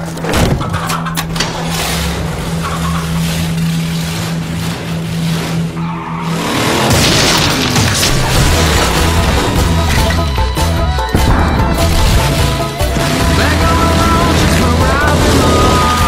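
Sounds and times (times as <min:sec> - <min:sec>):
tyres skidding: 0:00.0 - 0:16.0
vehicle engine humming: 0:00.0 - 0:16.0.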